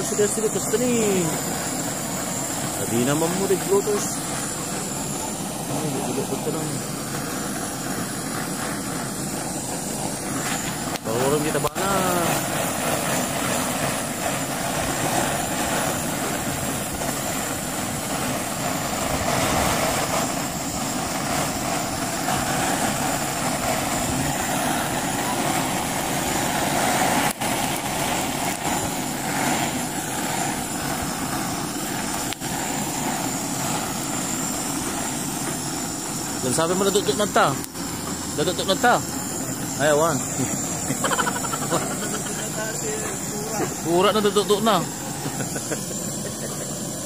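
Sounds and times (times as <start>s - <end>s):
gas torch flame hissing: 0.0s - 47.0s.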